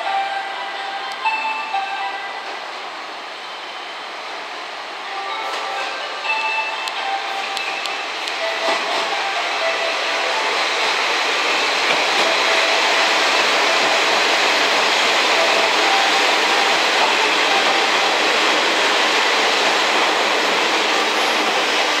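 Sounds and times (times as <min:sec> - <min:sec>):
train wheels on rail: 0:00.0 - 0:22.0.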